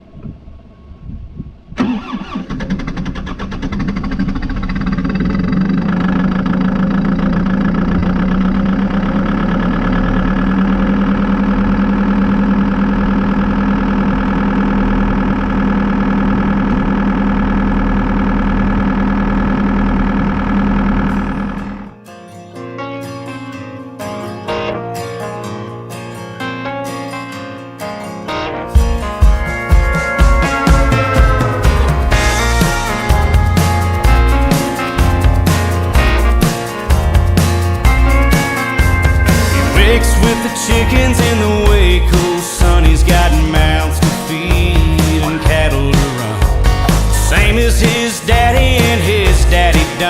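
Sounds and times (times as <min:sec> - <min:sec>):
diesel engine starting and running: 0:00.0 - 0:22.0, 0:28.4 - 0:50.0
guitar music: 0:01.8 - 0:50.0.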